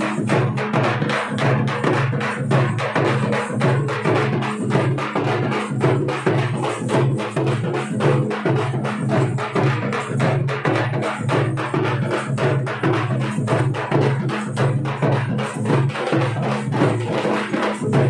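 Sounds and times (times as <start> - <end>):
drums in fast dance rhythm: 0.0 - 18.0.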